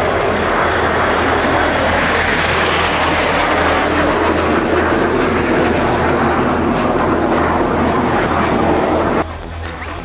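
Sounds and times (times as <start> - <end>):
jets flying past: 0.0 - 9.4.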